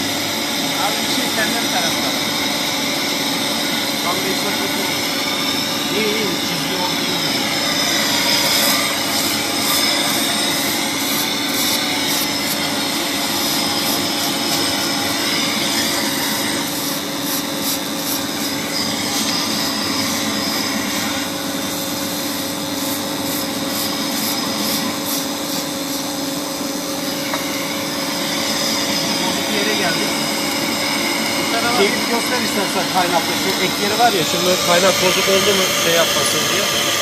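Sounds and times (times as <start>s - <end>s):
welding machine humming: 0.0s - 37.0s.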